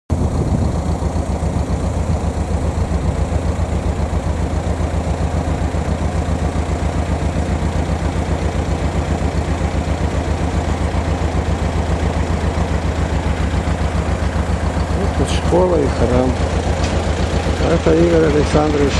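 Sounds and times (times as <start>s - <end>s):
engine idling: 0.1s - 18.9s.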